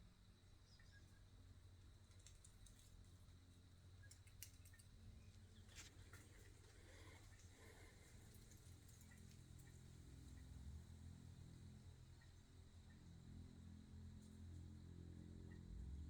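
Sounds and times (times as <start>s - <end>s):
faint low hum: 0.1s - 16.0s.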